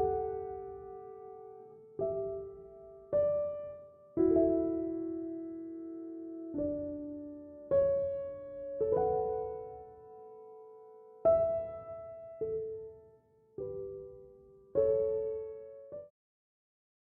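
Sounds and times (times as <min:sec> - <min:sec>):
slow gentle piano chords: 0:00.0 - 0:16.1.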